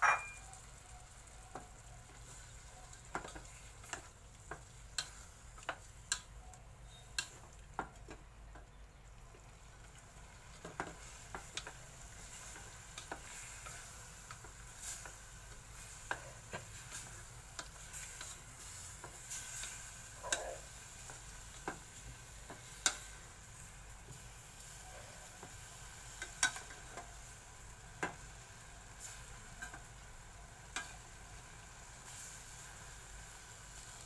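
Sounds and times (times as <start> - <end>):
pork sizzling in a pot: 0.0 - 34.0.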